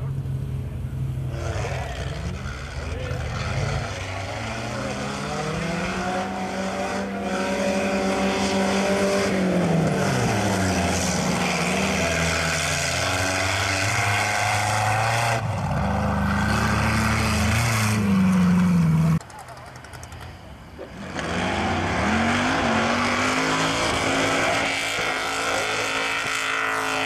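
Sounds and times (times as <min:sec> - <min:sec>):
racing engine revving high: 0:01.3 - 0:19.2, 0:21.0 - 0:27.0.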